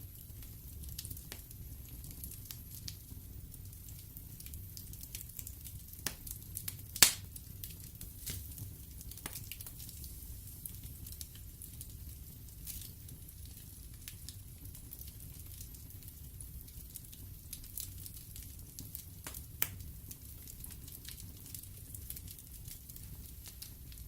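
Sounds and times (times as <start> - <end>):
fire popping: 0.0 - 24.0
wood fire crackling: 0.0 - 24.0.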